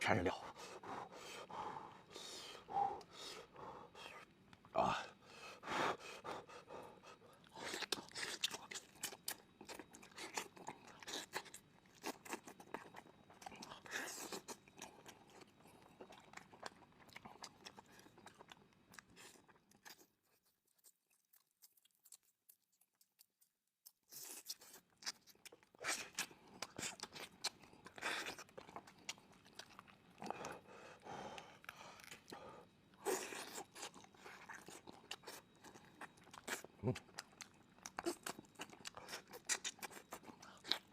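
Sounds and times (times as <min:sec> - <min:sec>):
chewing and biting food: 0:06.1 - 0:40.9.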